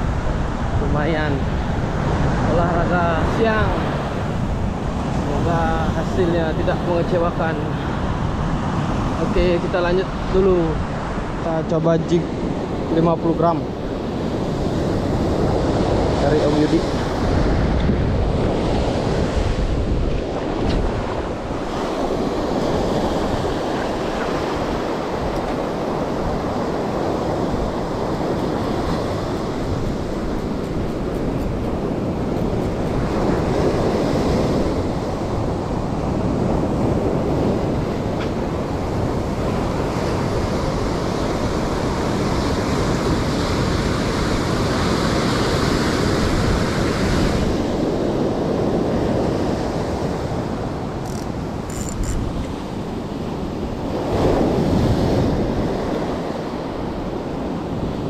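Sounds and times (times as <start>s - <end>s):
surf breaking on beach: 0.0s - 58.0s
wind buffeting microphone: 0.0s - 58.0s.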